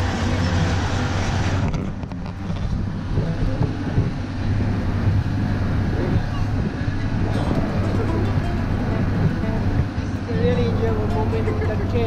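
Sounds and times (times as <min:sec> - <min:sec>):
road train motor droning: 0:00.0 - 0:12.0
wind on microphone: 0:00.0 - 0:12.0.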